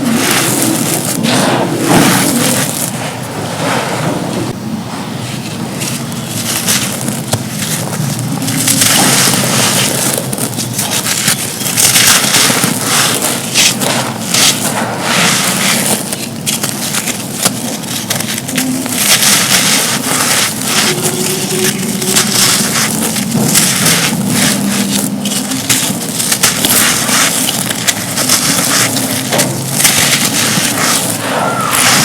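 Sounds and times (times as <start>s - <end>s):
hands crushing dry material: 0.0s - 4.1s, 5.4s - 32.0s.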